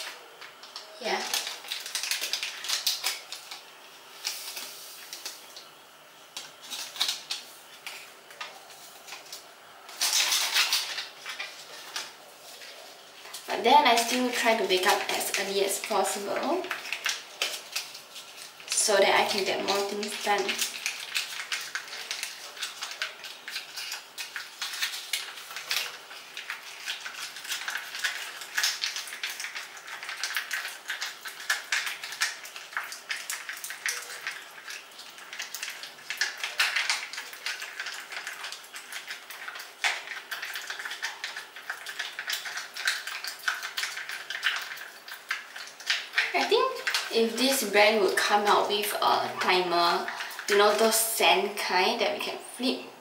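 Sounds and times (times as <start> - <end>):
face mask stirred in packet: 0.4 - 3.6, 6.4 - 51.1.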